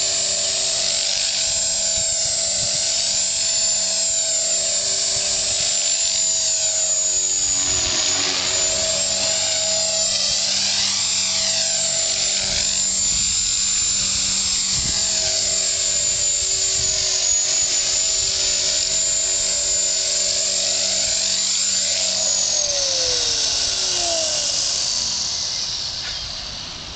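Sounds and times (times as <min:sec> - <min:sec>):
rc helicopter rotor whine: 0:00.0 - 0:26.9.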